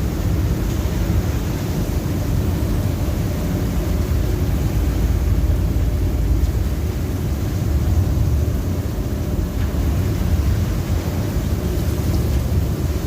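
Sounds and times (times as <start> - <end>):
heavy seas: 0.0 - 13.0
storm wind: 0.0 - 13.0.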